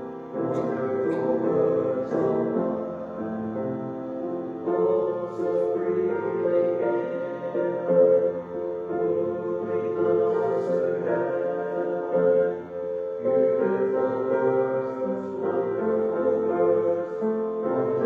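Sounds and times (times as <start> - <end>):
slow keyboard chords: 0.0 - 18.0.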